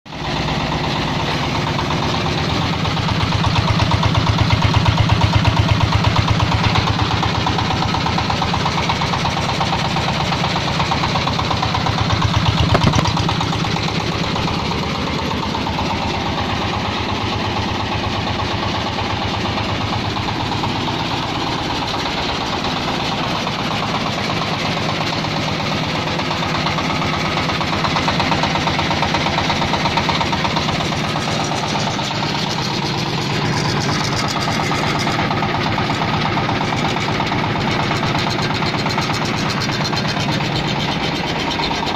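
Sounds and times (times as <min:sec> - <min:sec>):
diesel engine knocking: 0:00.1 - 0:41.9.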